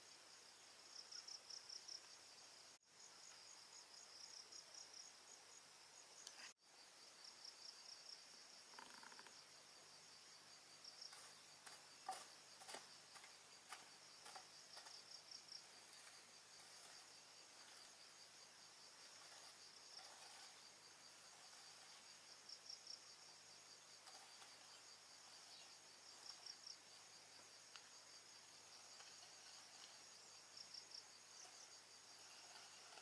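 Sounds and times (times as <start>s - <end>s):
insects trilling: 6.2s - 33.0s.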